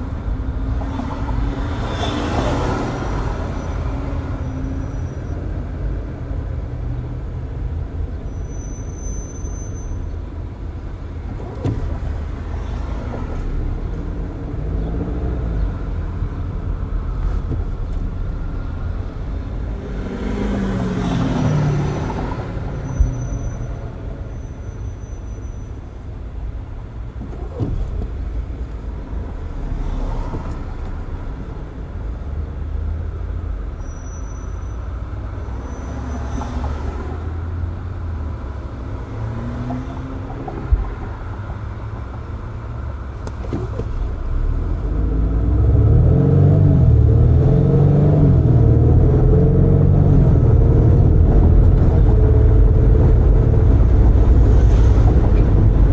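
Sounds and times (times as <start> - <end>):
engine rumble with wavering pitch: 0.0 - 55.9
tyre and engine rumble: 0.0 - 55.9.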